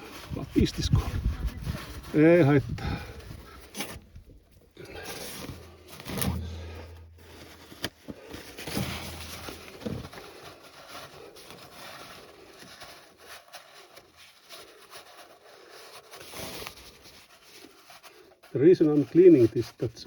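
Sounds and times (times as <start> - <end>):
hands wiping rustling and scraping: 0.0 - 20.0.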